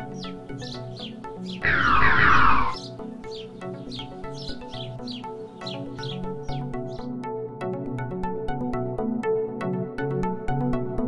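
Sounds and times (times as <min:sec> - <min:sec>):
electronic music with synthesizer: 0:00.0 - 0:11.0.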